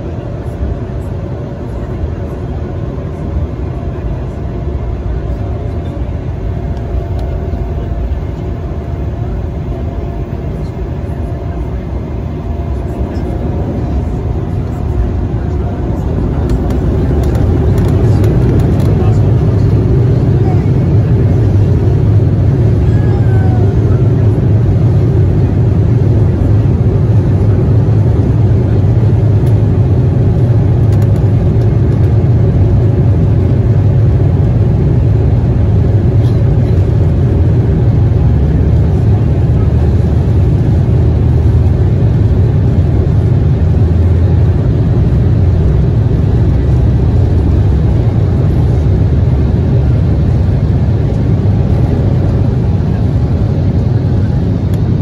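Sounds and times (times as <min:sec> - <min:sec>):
airliner cabin roar: 0:00.0 - 0:55.0.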